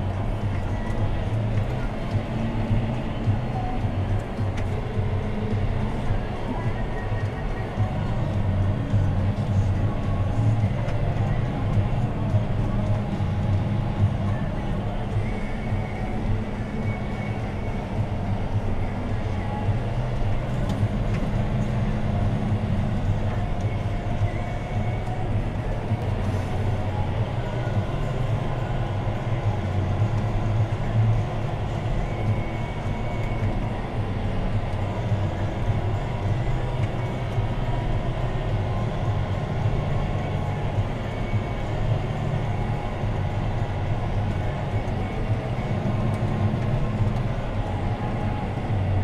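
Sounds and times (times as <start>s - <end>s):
steady whine: 0.0s - 49.0s
tractor diesel engine drone: 0.0s - 49.0s.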